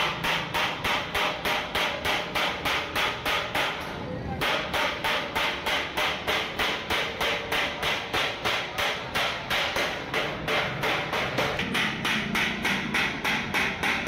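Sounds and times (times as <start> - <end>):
hammer striking sheet steel: 0.0 - 14.0.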